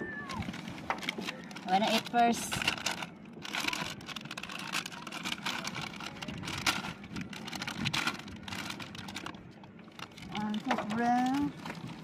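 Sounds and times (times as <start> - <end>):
wind: 0.0 - 12.0
plastic snack packet crinkling: 0.2 - 12.0.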